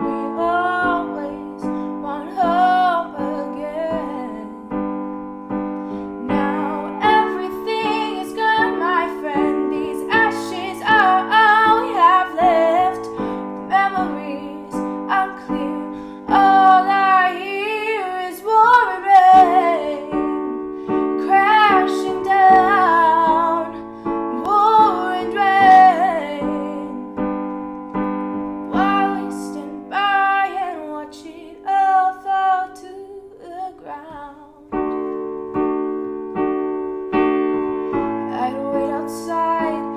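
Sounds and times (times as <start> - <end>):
woman singing slow song: 0.0 - 4.8, 5.9 - 27.2, 28.7 - 34.8, 38.2 - 39.9
piano chords: 0.0 - 39.9.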